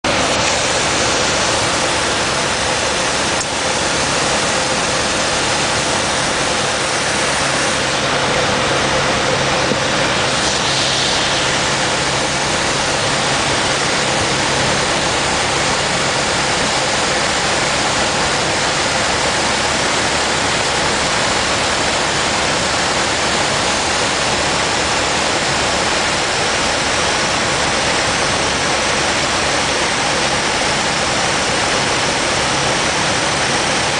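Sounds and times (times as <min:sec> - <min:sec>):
airplane engine and propeller: 0:00.0 - 0:33.9.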